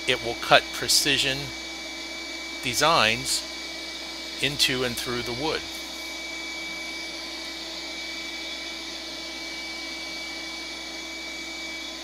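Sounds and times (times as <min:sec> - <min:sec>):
laser cutter whirring: 0:00.0 - 0:12.0.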